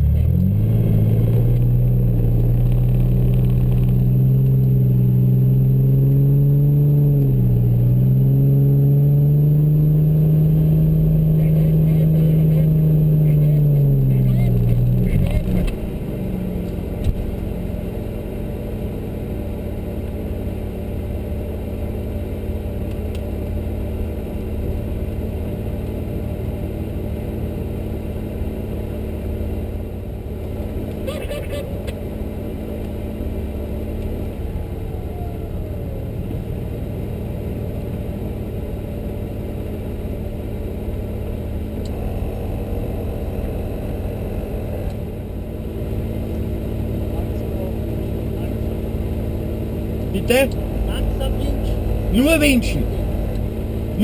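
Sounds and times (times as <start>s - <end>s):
vehicle engine idling: 10.1s - 54.0s.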